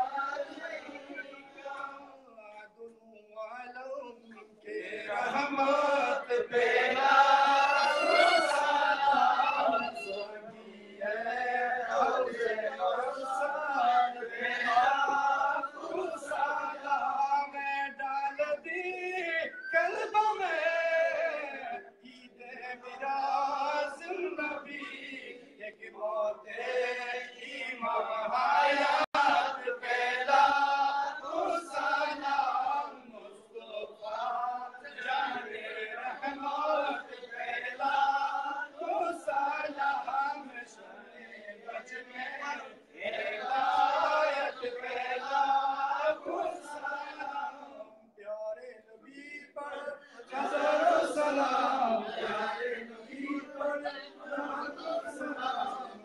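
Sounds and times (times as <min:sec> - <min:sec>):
man chanting devotional song: 0:00.0 - 0:47.3.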